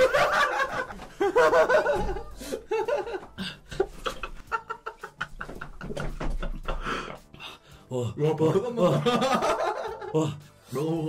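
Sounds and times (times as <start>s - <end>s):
man laughing hard: 0.0s - 7.2s, 8.2s - 10.4s.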